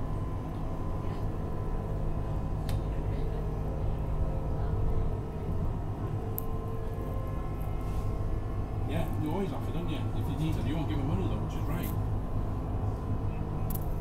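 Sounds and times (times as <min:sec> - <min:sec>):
faint whine: 0:00.0 - 0:14.0
tram rumbling: 0:00.0 - 0:14.0.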